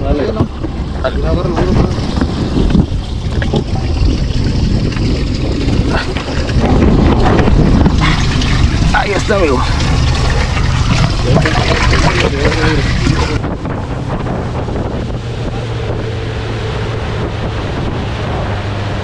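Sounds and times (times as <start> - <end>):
outboard motor running: 0.0 - 19.0
wind on microphone: 0.0 - 19.0.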